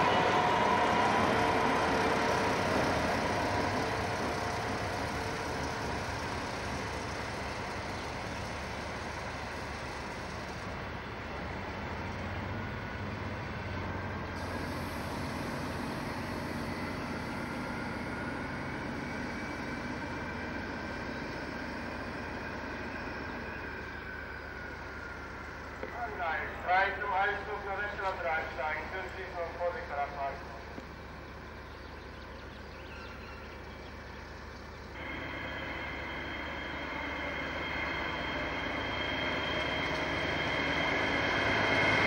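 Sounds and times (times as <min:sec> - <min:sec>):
diesel locomotive engines: 0:00.0 - 0:42.0
thin rising whine: 0:00.0 - 0:42.0.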